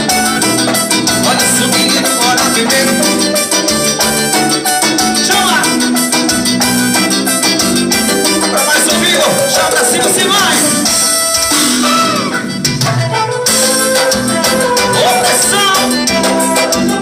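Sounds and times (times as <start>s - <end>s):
live band keyboard and percussion: 0.0s - 17.0s.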